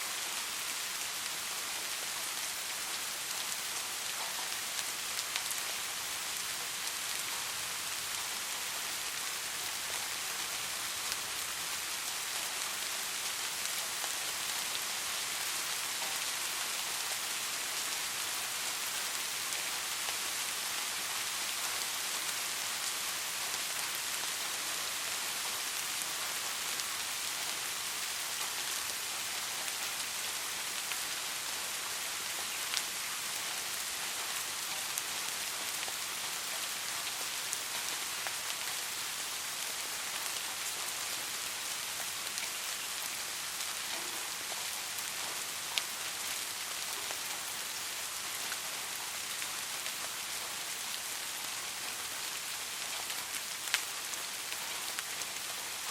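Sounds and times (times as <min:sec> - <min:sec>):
soft rain falling: 0:00.0 - 0:55.9.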